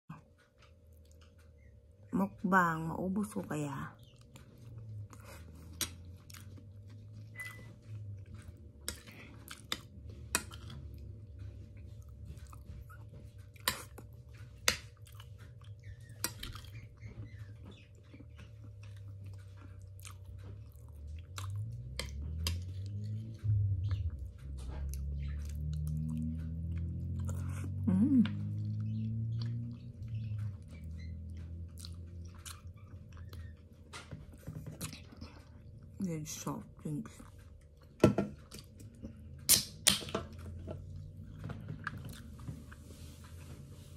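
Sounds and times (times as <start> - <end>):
person chewing: 4.0 - 17.1, 17.9 - 36.0, 37.2 - 43.2.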